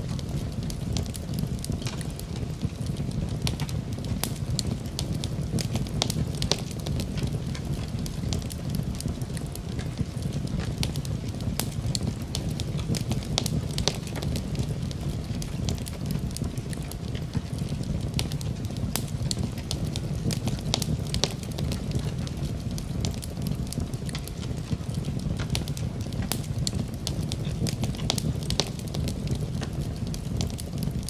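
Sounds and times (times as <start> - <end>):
burning wood crackling and popping: 0.0 - 31.0
low rumble of flame: 0.0 - 31.0.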